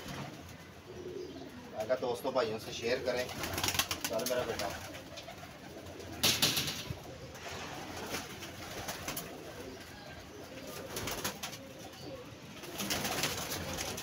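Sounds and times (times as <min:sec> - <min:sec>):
pigeons cooing: 0:00.0 - 0:14.0
wingbeats flurry: 0:00.0 - 0:14.0.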